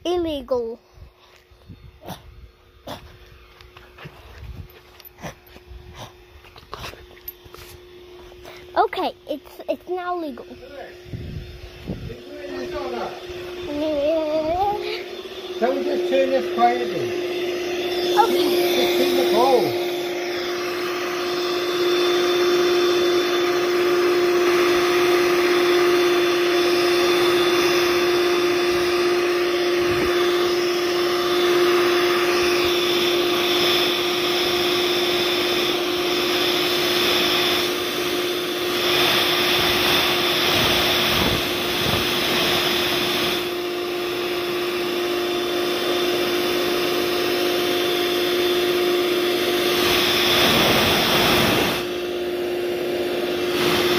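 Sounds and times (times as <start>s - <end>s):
electric motor humming: 0.0s - 53.9s.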